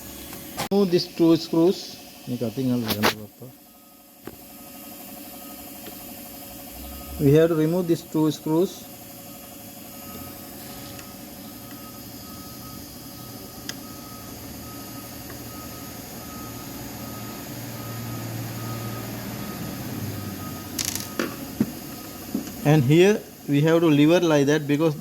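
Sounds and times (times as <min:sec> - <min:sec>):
reversing alarm beeping: 0:01.0 - 0:25.0.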